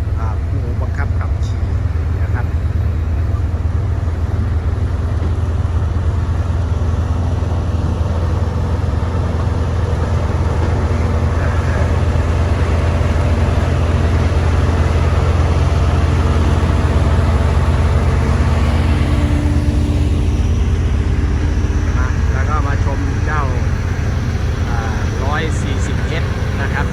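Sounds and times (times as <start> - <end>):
diesel engine rumbling: 0.0 - 26.9.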